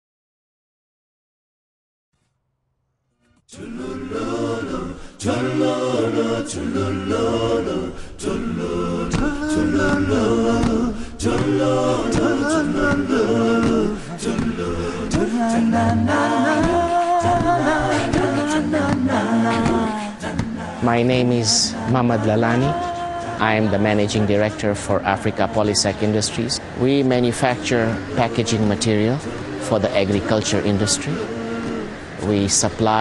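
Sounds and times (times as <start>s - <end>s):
a cappella group singing in harmony: 3.4s - 33.0s.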